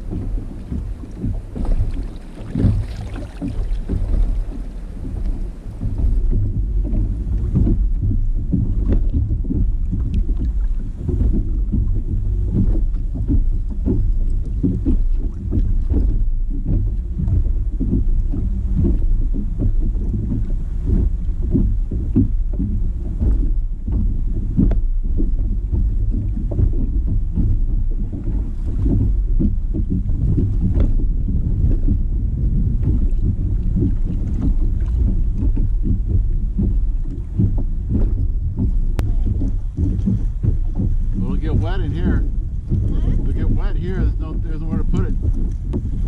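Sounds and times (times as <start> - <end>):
water slapping kayak hull: 0.0 - 46.0
wind rumble on microphone: 0.0 - 46.0.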